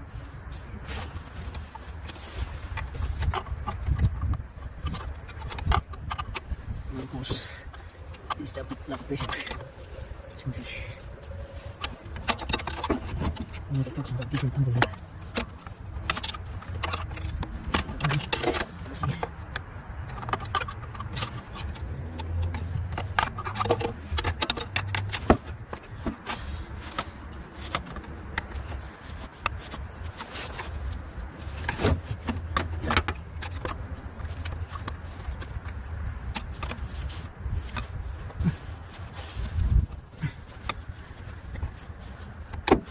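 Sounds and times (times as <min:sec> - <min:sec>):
hand tools clinking on metal: 0:01.6 - 0:42.9.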